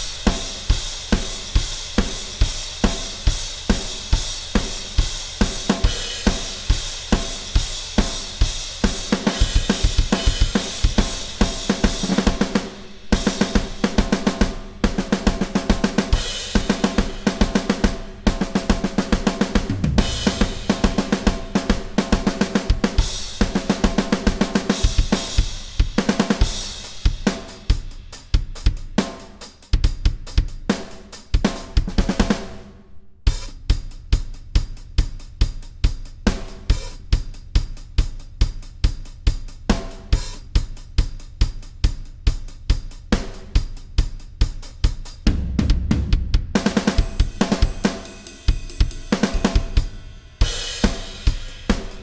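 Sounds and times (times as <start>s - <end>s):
drum kit playing: 0.0s - 32.7s, 33.3s - 52.0s.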